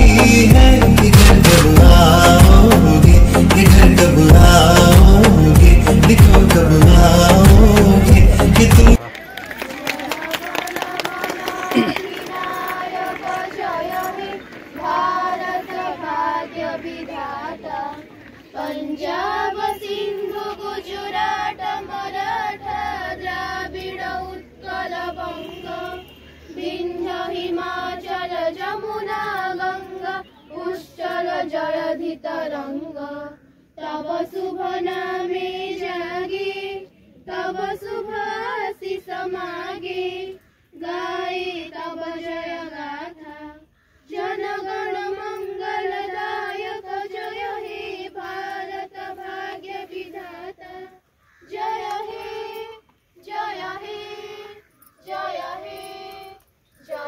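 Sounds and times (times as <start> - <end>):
children singing together: 10.7 - 57.0.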